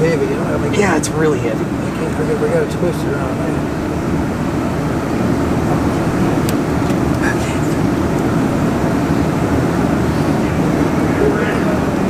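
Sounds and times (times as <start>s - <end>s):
steady low droning machinery: 0.0s - 12.0s.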